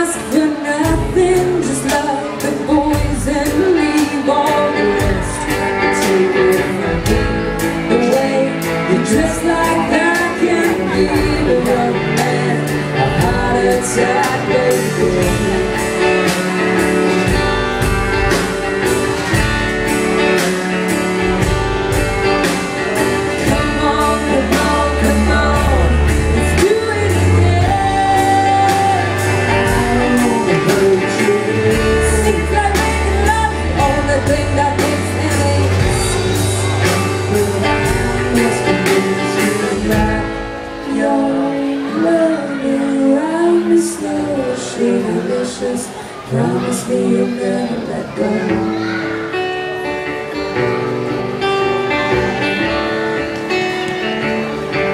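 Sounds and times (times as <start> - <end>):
acoustic guitar: 0.0 - 54.9
drums: 0.0 - 54.9
person singing: 0.0 - 54.9.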